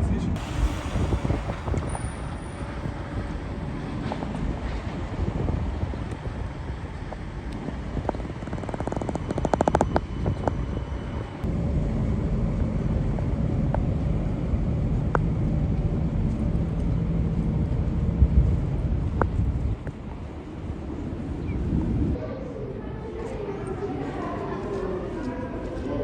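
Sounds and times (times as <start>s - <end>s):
train rumbling: 0.0s - 25.9s.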